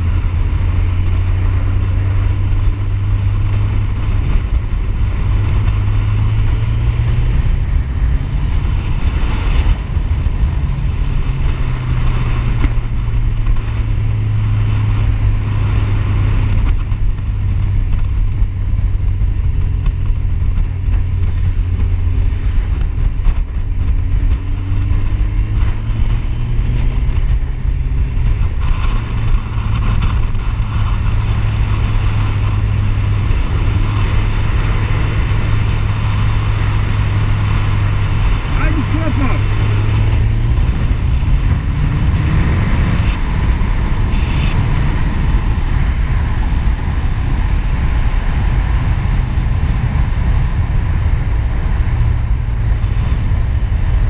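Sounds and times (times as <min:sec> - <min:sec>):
motorcycle engine: 0:00.0 - 0:54.0
wind rushing on microphone: 0:00.0 - 0:54.0.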